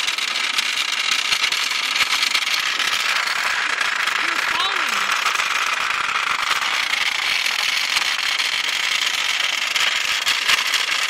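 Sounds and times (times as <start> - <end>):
vibrating robot toys rattling: 0.0 - 11.0.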